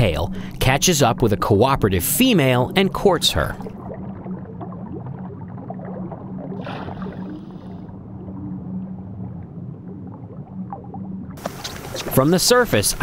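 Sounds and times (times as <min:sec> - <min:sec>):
underwater low hum: 0:00.0 - 0:13.0.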